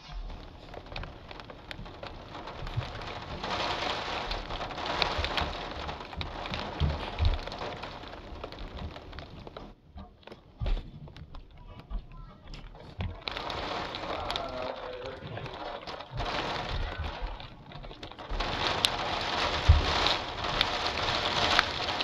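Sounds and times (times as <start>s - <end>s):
rainfall hiss: 0.0s - 9.8s, 12.7s - 22.0s
low thuds: 0.0s - 22.0s.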